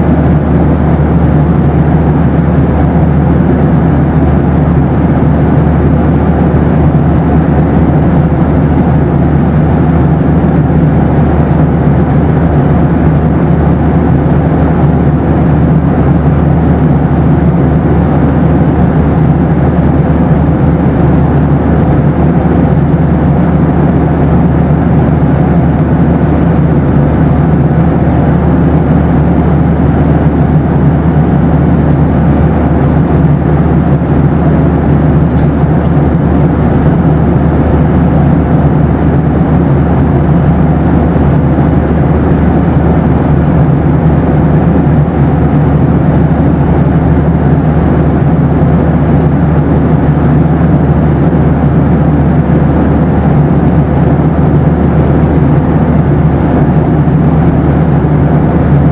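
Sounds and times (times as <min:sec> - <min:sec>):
faint steady hum: 0:00.0 - 0:58.9
jet engines rumbling in cabin: 0:00.0 - 0:58.9.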